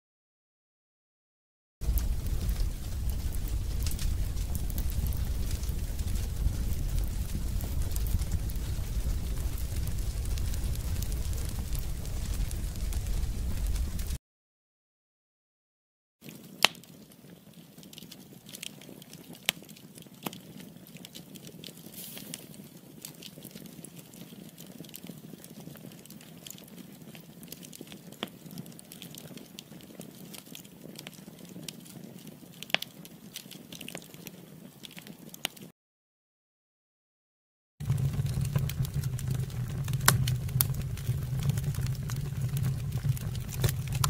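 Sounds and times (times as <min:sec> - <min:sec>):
log fire crackling: 0:01.8 - 0:14.2, 0:16.2 - 0:35.7, 0:37.8 - 0:44.0.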